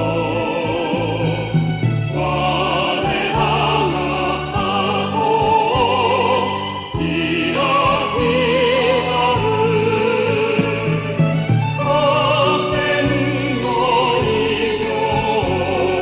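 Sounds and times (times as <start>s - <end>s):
operatic singing with classical accompaniment: 0.0s - 16.0s.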